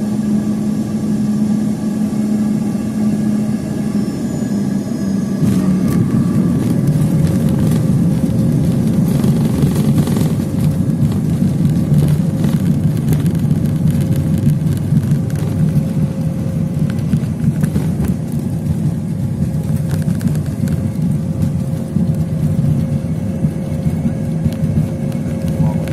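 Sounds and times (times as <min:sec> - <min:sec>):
rumble of engines and wheels: 0:00.0 - 0:25.9.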